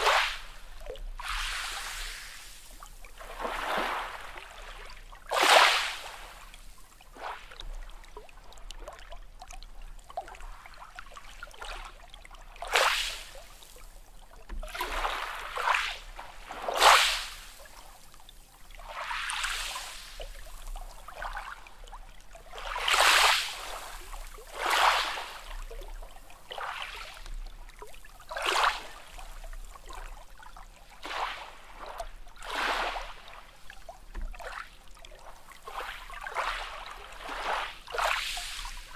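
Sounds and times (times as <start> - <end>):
small sea waves splashing: 0.0 - 38.9.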